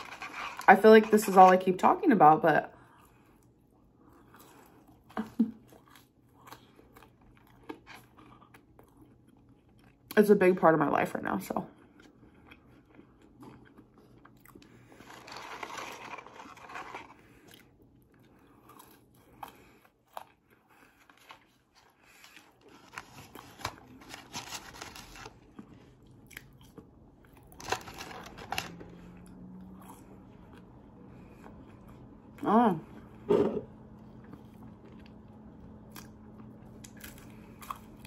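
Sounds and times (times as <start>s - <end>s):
food crunching: 0.0s - 1.6s, 2.9s - 10.2s, 11.8s - 32.4s, 33.8s - 38.0s
person chewing food: 2.8s - 10.2s, 11.7s - 38.0s.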